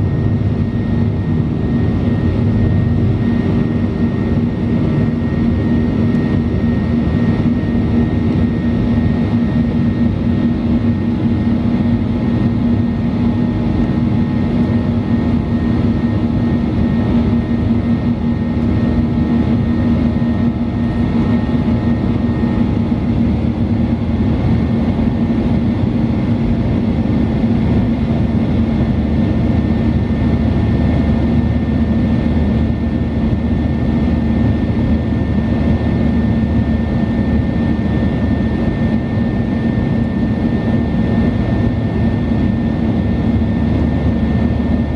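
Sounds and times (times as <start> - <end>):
jet engines droning in cabin: 0.0 - 44.9.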